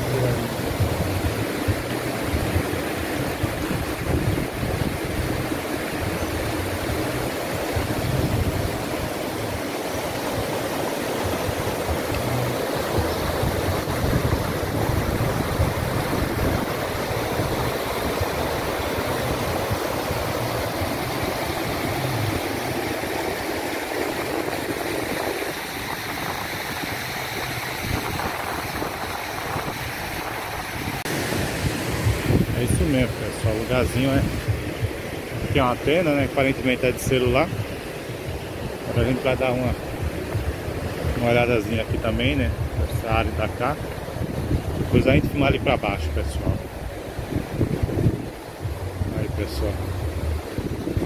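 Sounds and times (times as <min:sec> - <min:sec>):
water rushing over rocks: 0:00.0 - 0:51.0.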